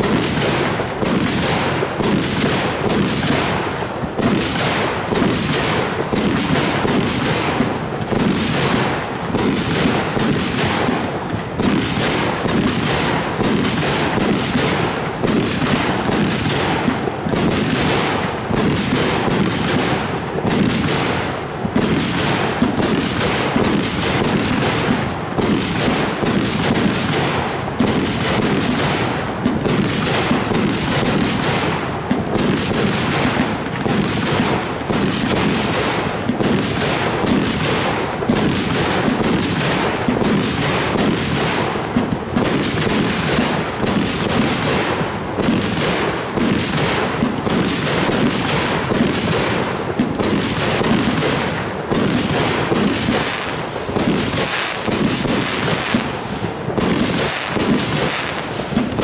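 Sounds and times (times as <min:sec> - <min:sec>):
fireworks aerial bursts: 0:00.0 - 0:59.0
fireworks launch reports: 0:00.0 - 0:59.0.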